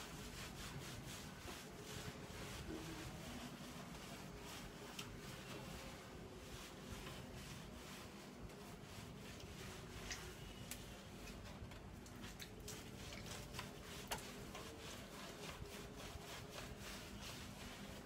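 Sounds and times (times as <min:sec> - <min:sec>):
wet rubbing of dog fur: 0:00.0 - 0:18.0.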